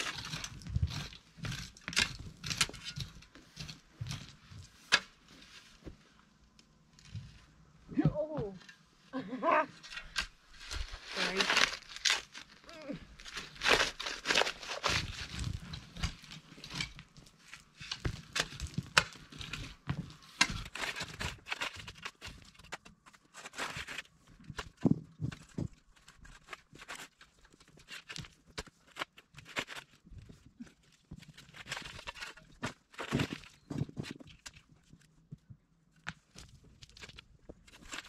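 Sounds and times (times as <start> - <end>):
knocks and scrapes in soil: 0.0 - 38.0.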